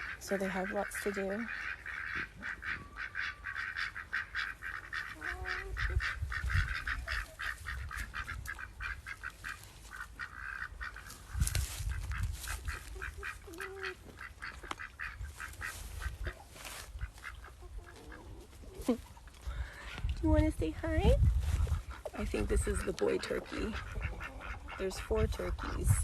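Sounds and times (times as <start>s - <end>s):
ducks quacking: 0.0s - 20.1s, 21.0s - 26.0s.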